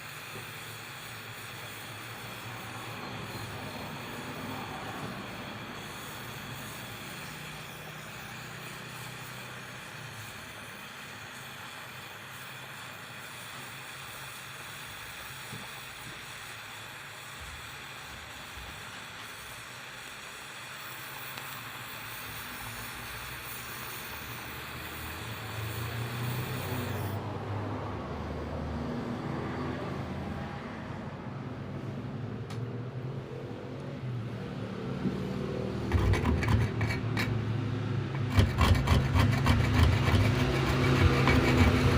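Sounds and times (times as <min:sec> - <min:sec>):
welding torch flame hissing: 0:00.0 - 0:27.3, 0:33.7 - 0:41.9.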